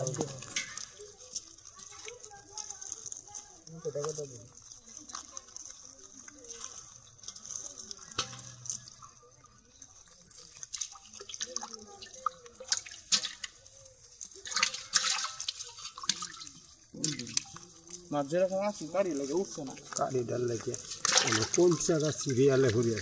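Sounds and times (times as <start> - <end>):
wet clicks and drips from net: 0.0 - 23.0.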